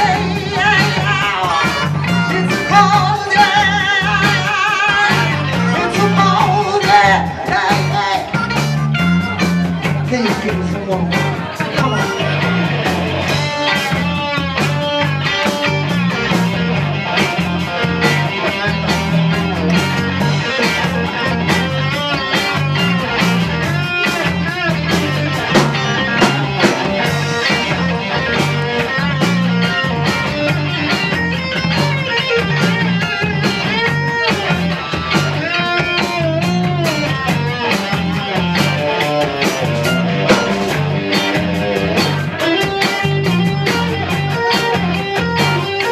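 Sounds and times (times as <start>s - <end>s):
bass guitar: 0.0s - 45.9s
drum kit: 0.0s - 45.9s
electric guitar lead bending notes: 0.0s - 45.9s
rhythm guitar: 0.0s - 45.9s.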